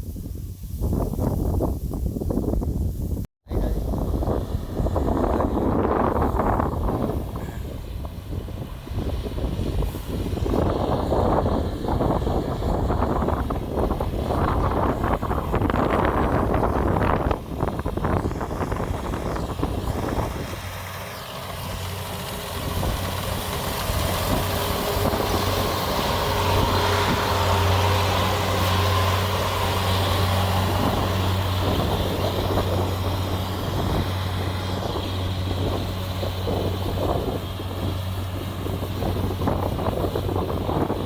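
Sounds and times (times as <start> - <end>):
wind noise on microphone: 0.0 - 41.0
combine harvester engine running: 3.5 - 41.0.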